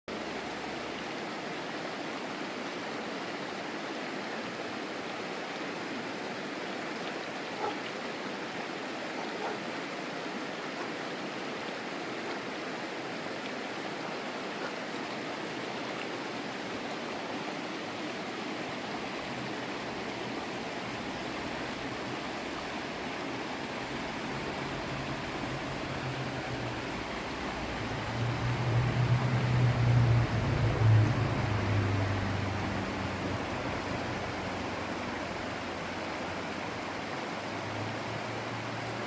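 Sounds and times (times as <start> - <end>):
river rushing over rocks: 0.1 - 39.0.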